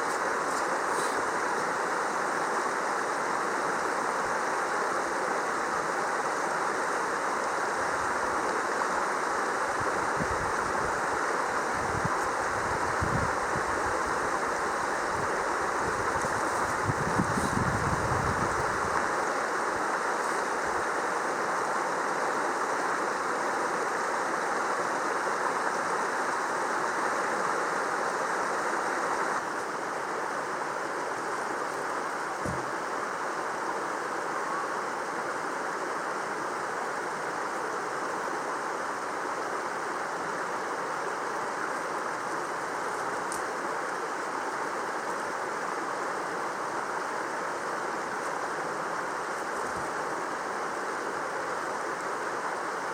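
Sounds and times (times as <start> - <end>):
mountain stream rushing: 0.0 - 52.9.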